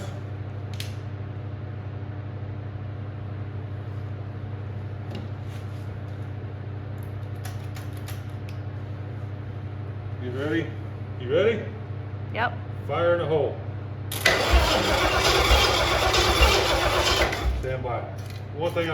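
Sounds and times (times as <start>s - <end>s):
low mechanical hum: 0.0s - 18.9s.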